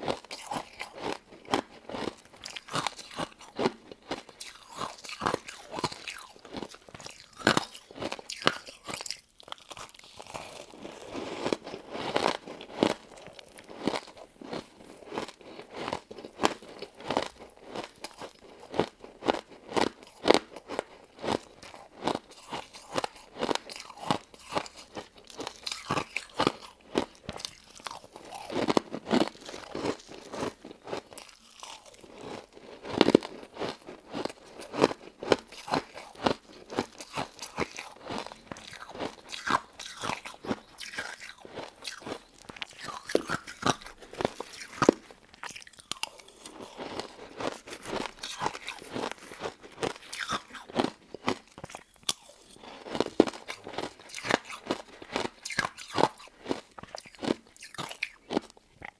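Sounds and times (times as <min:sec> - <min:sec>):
crunchy chewing of ice dessert: 0:00.0 - 0:58.9.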